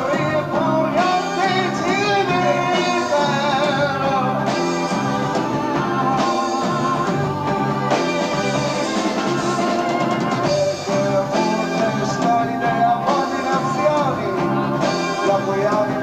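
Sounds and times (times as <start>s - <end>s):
person singing: 0.0s - 16.0s
rock band playing: 0.0s - 16.0s.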